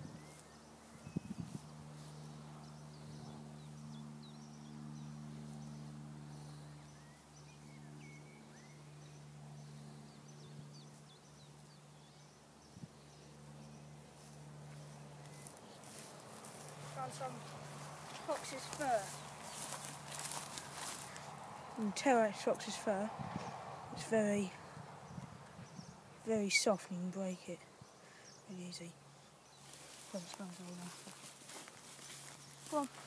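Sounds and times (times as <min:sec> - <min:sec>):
low hum: 0:00.0 - 0:33.0
small birds chirping: 0:00.0 - 0:33.0.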